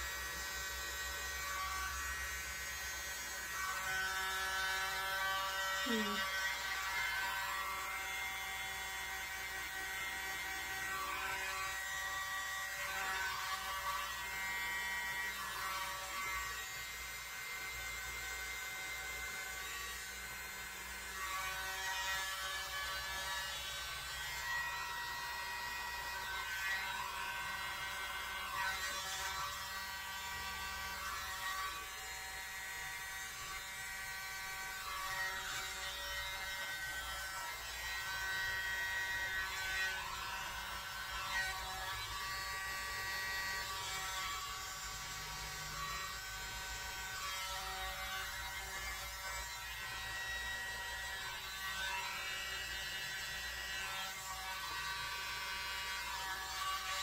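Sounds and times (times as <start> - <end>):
mini blower buzzing whine: 0.0 - 57.0.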